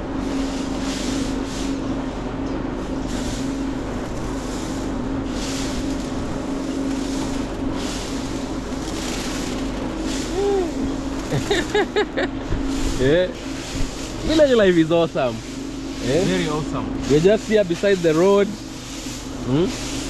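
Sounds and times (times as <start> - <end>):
grain mill grinding: 3.1 - 20.0.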